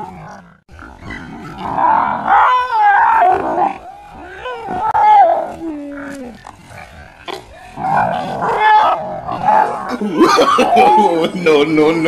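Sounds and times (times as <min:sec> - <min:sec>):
dog barking and snarling: 0:00.0 - 0:11.6.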